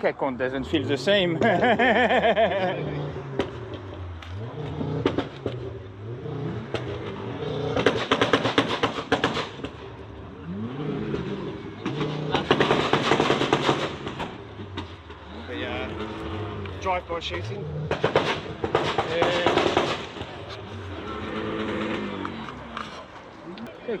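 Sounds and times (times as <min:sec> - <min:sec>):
car engine revving: 0:00.0 - 0:24.0
exhaust pops and crackles: 0:00.0 - 0:24.0.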